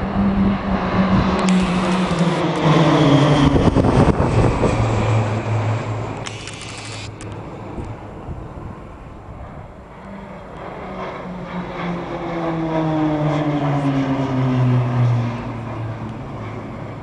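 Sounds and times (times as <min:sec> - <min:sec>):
propeller planes flying past: 0:00.0 - 0:17.0.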